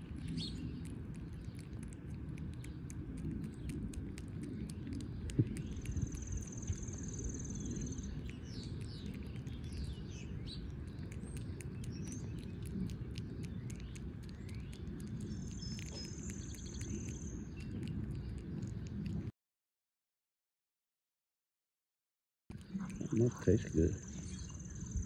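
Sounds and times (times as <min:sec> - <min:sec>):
birds singing: 0:00.0 - 0:03.8, 0:04.5 - 0:18.9, 0:22.5 - 0:25.0
squirrel gnawing: 0:00.0 - 0:19.3, 0:22.5 - 0:25.0
steady low rumble: 0:00.0 - 0:19.3, 0:22.5 - 0:25.0.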